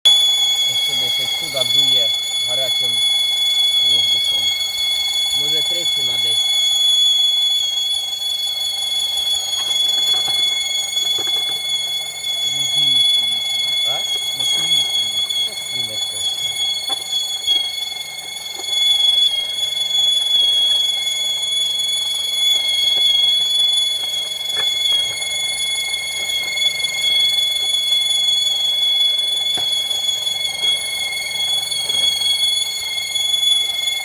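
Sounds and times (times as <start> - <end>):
high-pitched engine whistle: 0.0 - 34.0.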